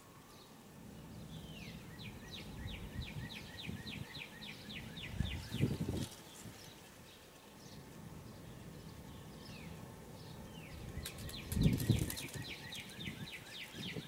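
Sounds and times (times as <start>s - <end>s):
small bird singing: 0.0s - 14.0s.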